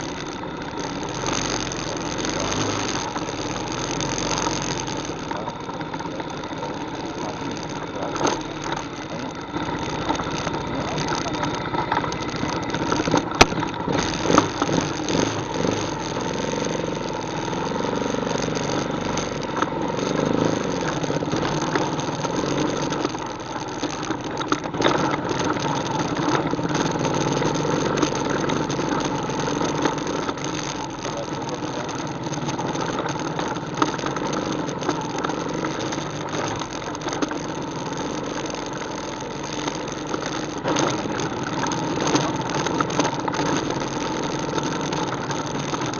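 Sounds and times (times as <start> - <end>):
atv engine running: 0.0 - 45.9.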